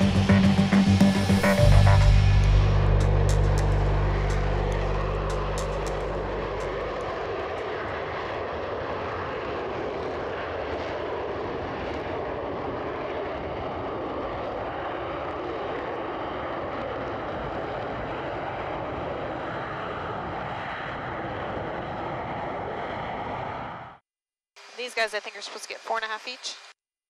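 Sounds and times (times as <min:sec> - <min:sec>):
fighter jet engines roaring: 0:00.0 - 0:24.0.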